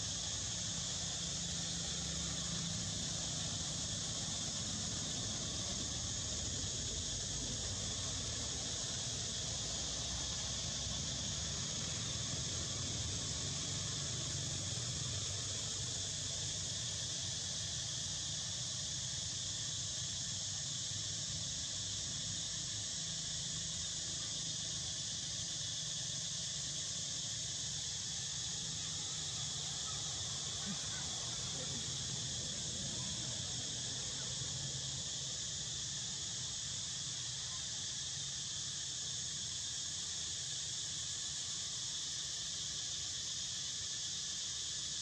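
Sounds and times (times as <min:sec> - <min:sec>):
insect chorus: 0:00.0 - 0:45.0.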